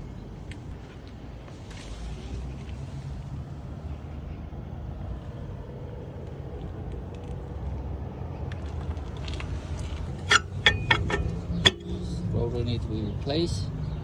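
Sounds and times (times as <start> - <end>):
motor vehicle engine rumbling: 0.0 - 14.0.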